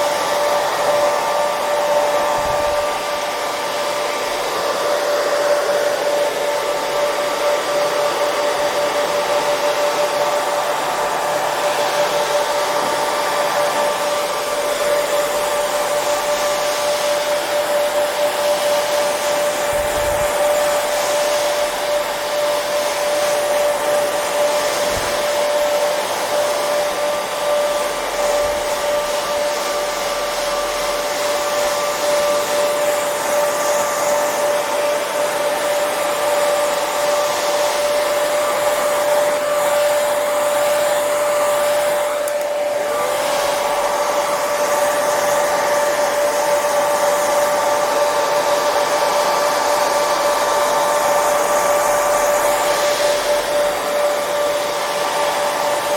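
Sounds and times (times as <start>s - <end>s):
hair dryer running: 0.0s - 55.9s.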